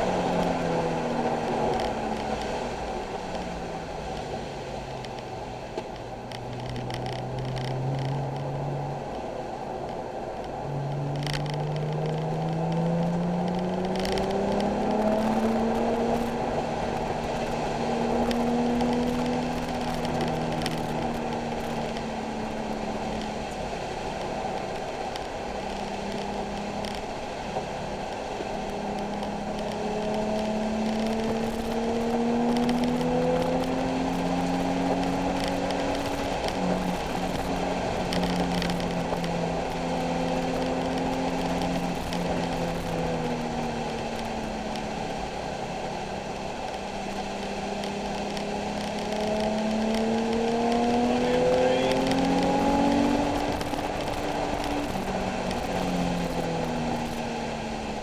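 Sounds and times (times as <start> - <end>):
car engine under load: 0.0 - 58.0
road and wind noise: 0.0 - 58.0.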